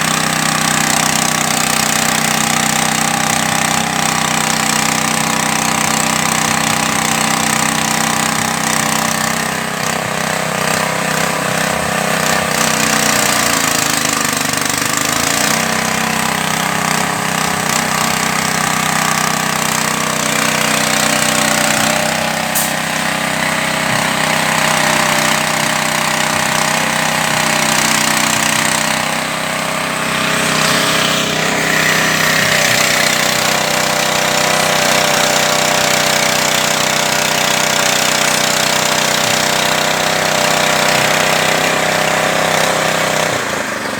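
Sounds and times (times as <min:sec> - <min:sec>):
pellet extruder machine running: 0:00.0 - 0:43.9.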